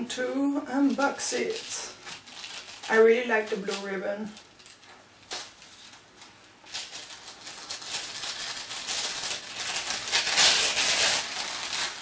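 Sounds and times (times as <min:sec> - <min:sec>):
tissue paper rustling: 0:00.9 - 0:12.0.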